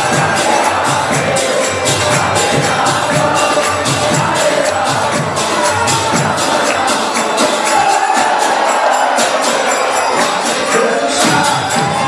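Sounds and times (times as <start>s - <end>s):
crowd chanting: 0.0s - 12.0s
fast percussion beat: 0.0s - 12.0s.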